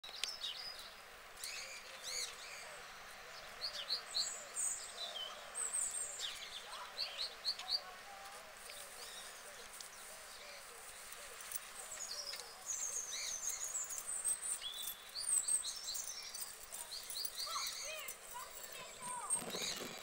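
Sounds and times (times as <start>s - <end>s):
faint outdoor background noise: 0.0s - 20.0s
songbirds chirping: 0.0s - 20.0s.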